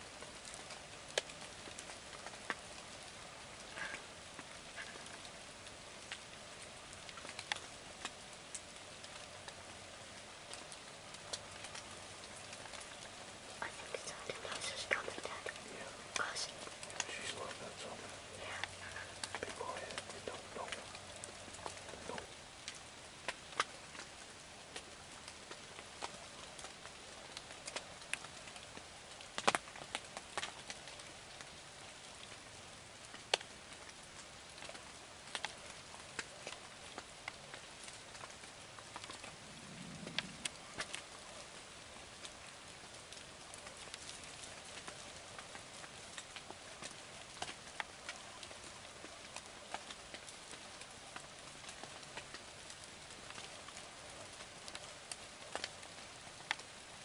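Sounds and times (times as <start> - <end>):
rain drops ticking: 0.0 - 57.0
soft rain hiss: 0.0 - 57.0.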